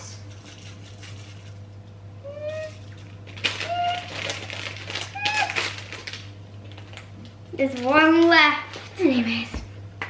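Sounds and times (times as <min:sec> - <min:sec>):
plastic bag rustling: 0:00.3 - 0:01.7, 0:02.4 - 0:09.3.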